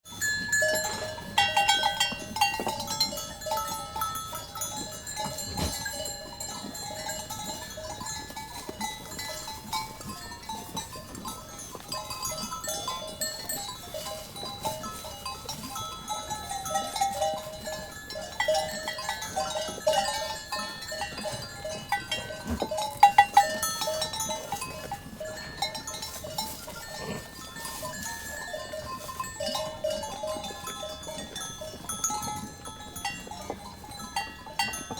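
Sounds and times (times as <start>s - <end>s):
sheep bells clanking: 0.0s - 34.9s.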